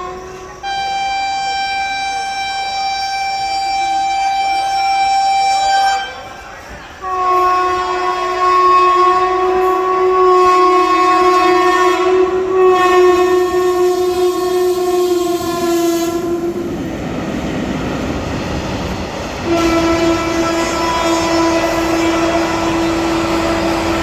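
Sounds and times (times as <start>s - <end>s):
locomotive horn blast: 0.0s - 17.0s, 18.8s - 24.0s
rumble of passing train: 0.0s - 24.0s.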